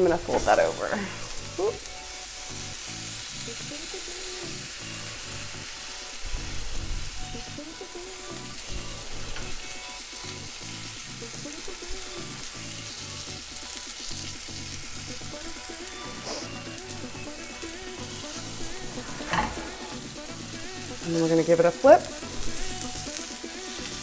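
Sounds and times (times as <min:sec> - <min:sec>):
background music with bass line: 0:00.0 - 0:24.0
food sizzling in frying pan: 0:00.0 - 0:24.0.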